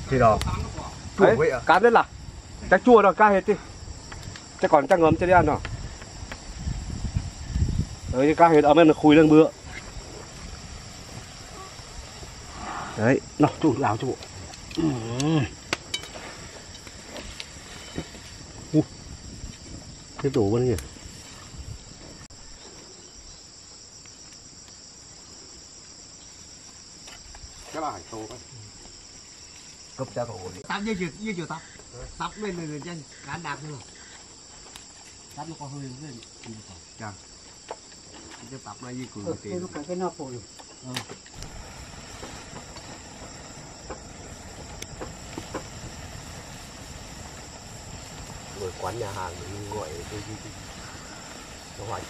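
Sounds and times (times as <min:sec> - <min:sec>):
crickets chirring: 0:00.0 - 0:52.0
insects trilling: 0:00.0 - 0:52.0.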